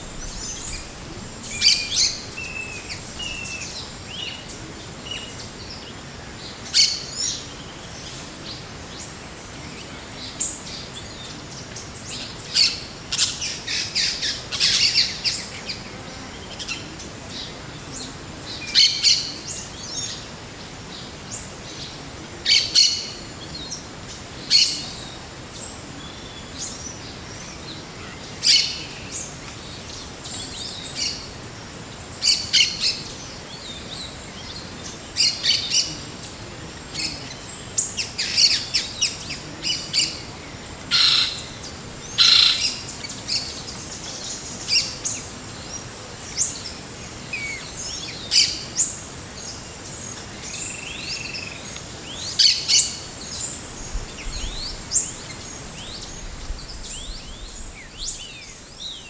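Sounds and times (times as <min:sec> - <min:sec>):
birds chirping: 0:00.0 - 0:59.0
soft forest ambience: 0:00.0 - 0:59.0.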